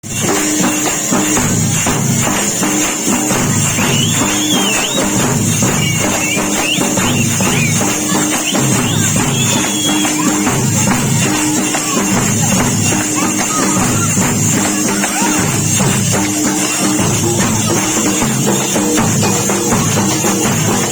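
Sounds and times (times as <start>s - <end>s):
drums beating rapidly: 0.0s - 20.9s
metallic jingle: 0.0s - 20.9s
high gliding tones: 3.6s - 20.5s.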